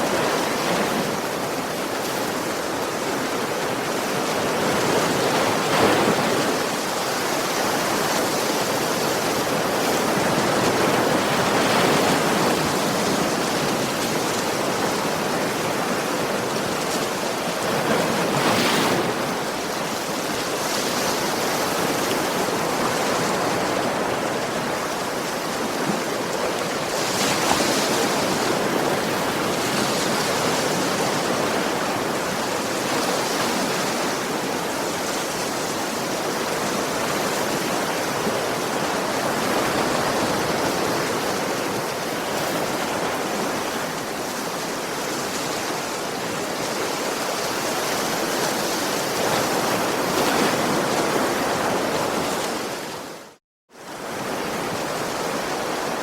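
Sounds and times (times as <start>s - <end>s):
ocean waves washing onto beach: 0.0s - 56.0s.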